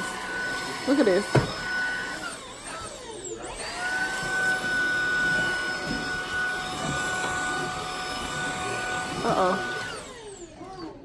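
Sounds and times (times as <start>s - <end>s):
stick vacuum motor whine: 0.0s - 11.0s.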